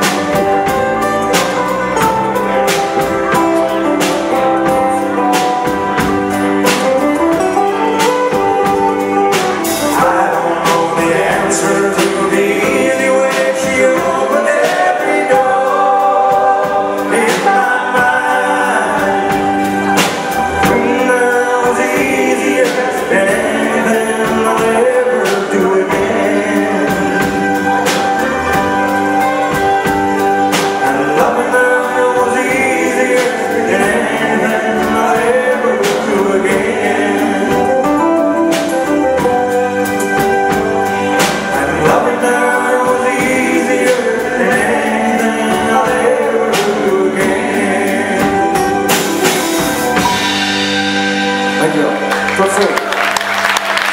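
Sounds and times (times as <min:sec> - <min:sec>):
men singing: 0:00.0 - 0:50.9
acoustic guitar: 0:00.0 - 0:53.9
bass guitar: 0:00.0 - 0:53.9
drums: 0:00.0 - 0:53.9
electric guitar: 0:00.0 - 0:53.9.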